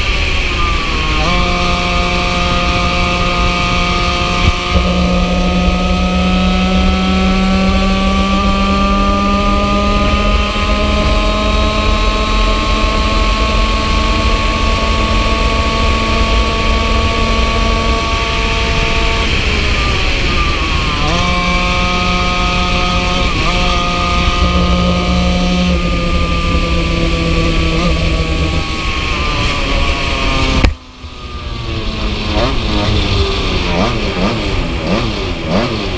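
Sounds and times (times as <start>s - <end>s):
kart engine at full throttle: 0.0s - 35.9s.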